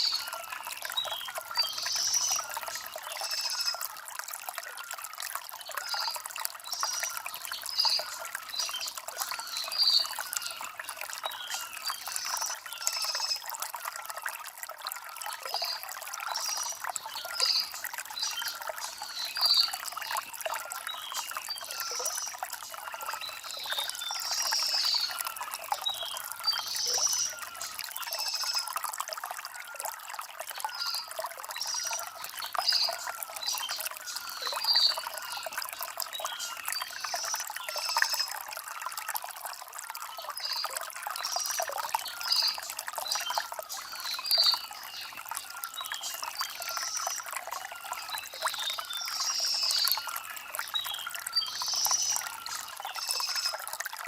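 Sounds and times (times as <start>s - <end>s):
stream trickling over stones: 0.0s - 54.0s.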